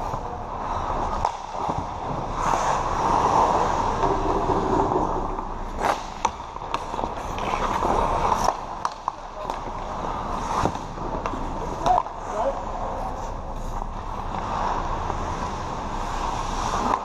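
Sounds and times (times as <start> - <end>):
skates scraping on ice: 0.0 - 17.0
hockey stick and puck clacks: 1.0 - 17.0.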